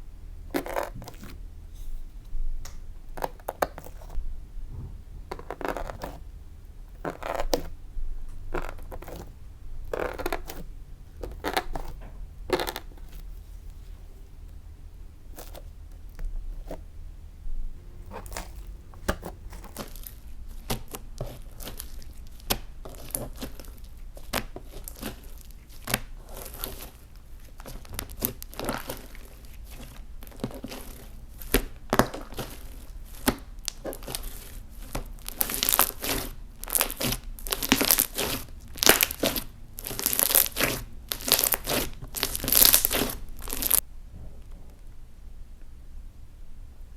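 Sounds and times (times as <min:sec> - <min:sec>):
slime crackling when kneaded: 0:05.1 - 0:16.9, 0:17.8 - 0:43.8.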